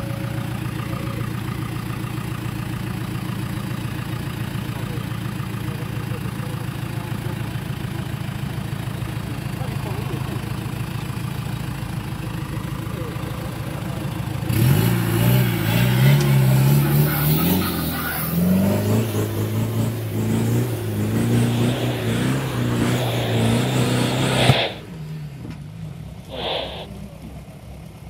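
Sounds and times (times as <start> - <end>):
off-road vehicle engine revving: 0.0 - 25.6.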